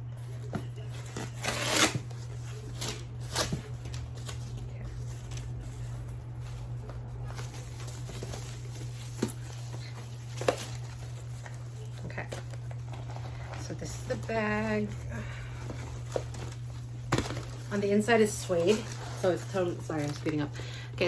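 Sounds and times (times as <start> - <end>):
low hum: 0.0 - 20.9
wrapping rustling: 0.1 - 21.0.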